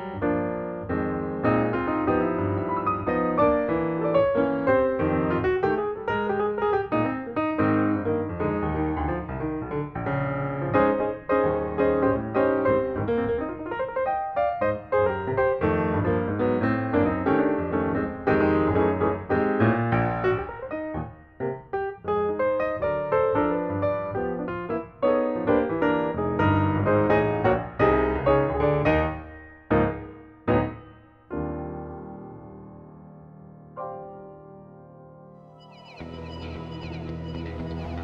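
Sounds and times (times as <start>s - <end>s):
fast piano music: 0.0s - 38.0s.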